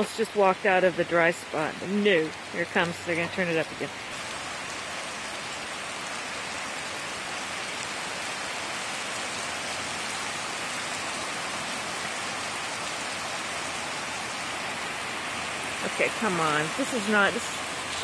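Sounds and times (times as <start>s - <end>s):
heavy rain on a paved street: 0.0s - 18.0s.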